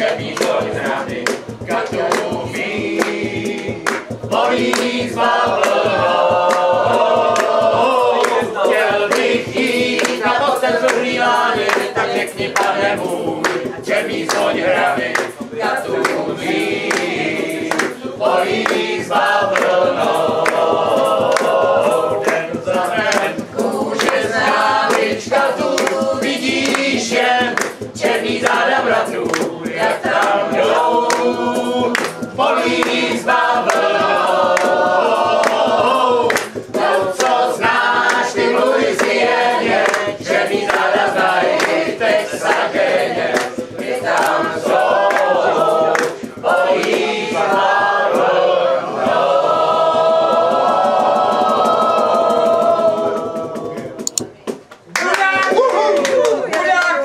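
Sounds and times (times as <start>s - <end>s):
group of voices singing: 0.0s - 54.5s.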